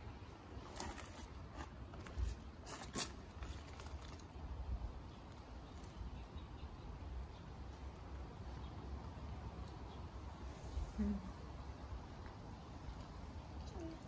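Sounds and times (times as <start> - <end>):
faint rustling of plants: 0.0 - 14.0.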